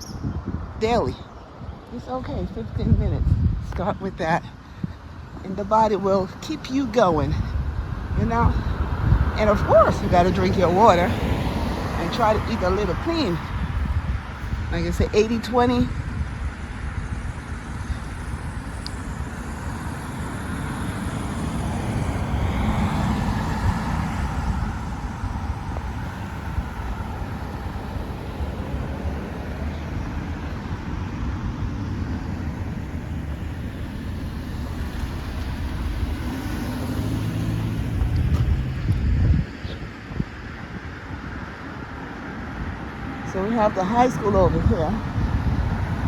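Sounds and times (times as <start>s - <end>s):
cars driving past: 0.0s - 46.0s.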